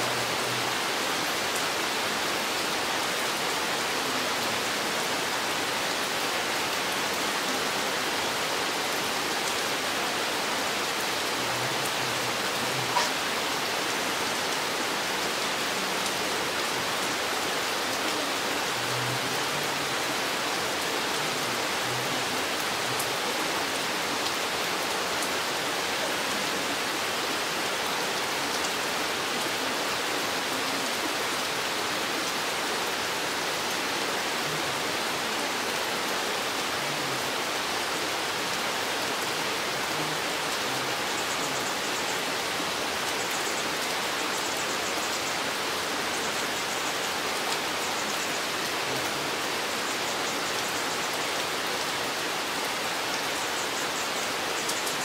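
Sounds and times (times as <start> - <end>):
rain falling on forest: 0.0 - 55.0.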